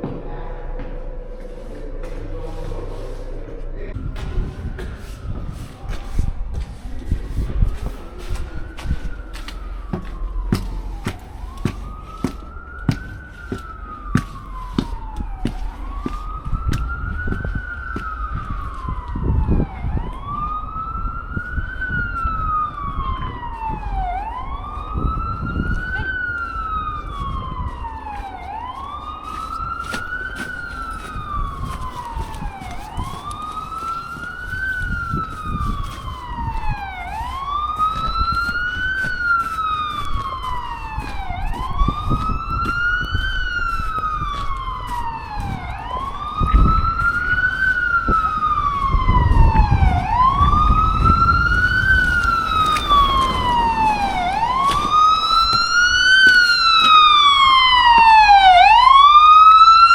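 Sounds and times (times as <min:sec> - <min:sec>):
emergency vehicle siren wailing: 0:00.0 - 0:59.9.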